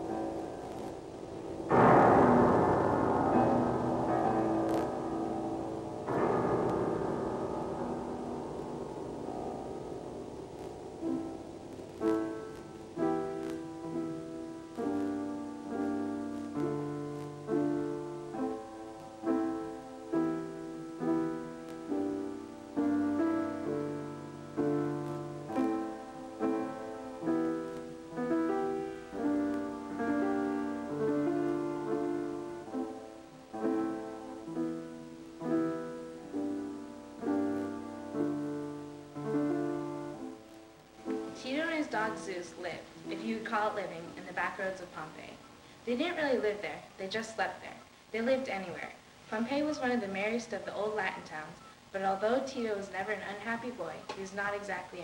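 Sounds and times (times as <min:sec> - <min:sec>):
piano chords: 0:00.0 - 0:47.0.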